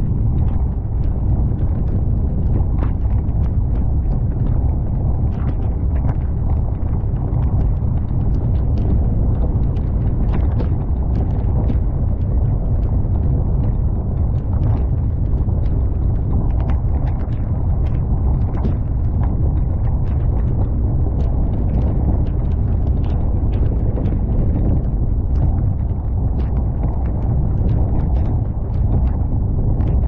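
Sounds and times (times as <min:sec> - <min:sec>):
wind buffeting microphone: 0:00.0 - 0:30.0
gravel crackling under tyres: 0:00.1 - 0:30.0.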